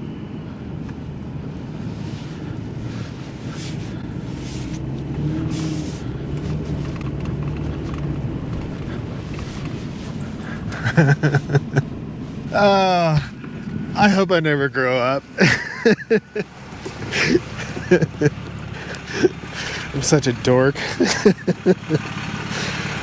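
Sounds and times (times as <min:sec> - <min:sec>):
road noise: 0:00.0 - 0:23.0
truck engine running: 0:00.0 - 0:23.0.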